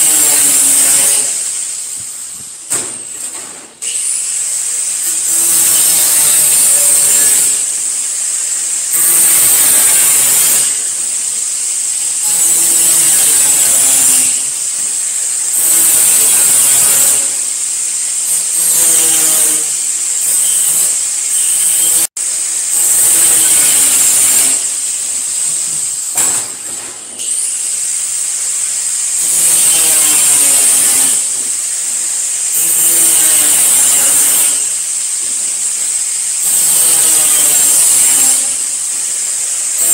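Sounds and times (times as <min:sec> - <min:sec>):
angle grinder cutting sheet steel: 0:00.0 - 0:39.9.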